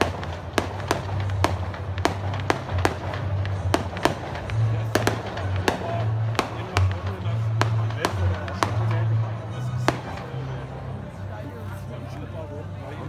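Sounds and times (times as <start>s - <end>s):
fireworks bursting: 0.0s - 10.9s.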